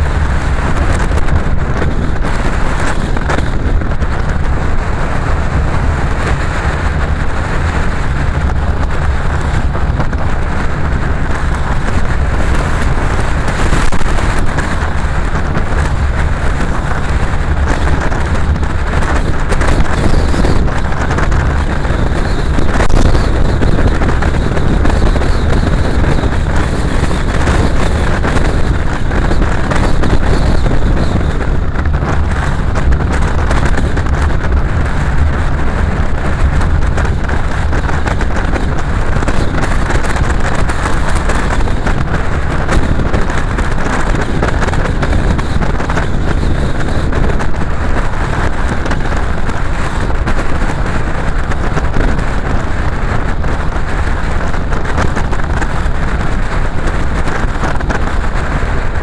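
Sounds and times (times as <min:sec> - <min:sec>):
car engine: 0:00.0 - 0:59.0
wind noise: 0:00.0 - 0:59.0.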